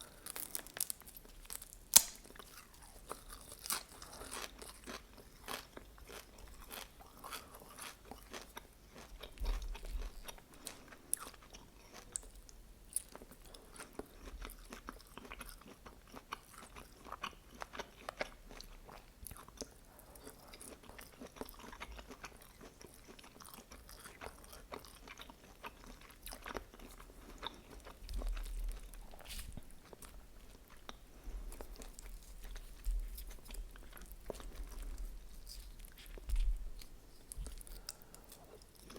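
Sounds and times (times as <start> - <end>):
mouth clicks and crunches chewing: 0.0 - 38.9.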